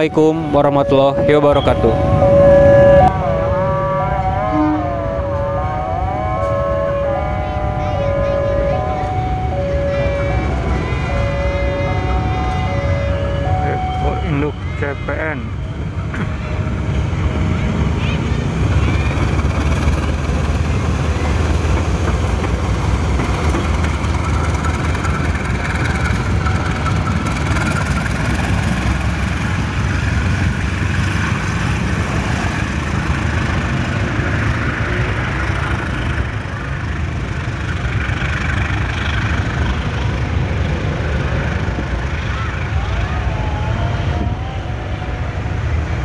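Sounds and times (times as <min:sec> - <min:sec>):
locomotive diesel engine rumble: 0:00.0 - 0:46.0.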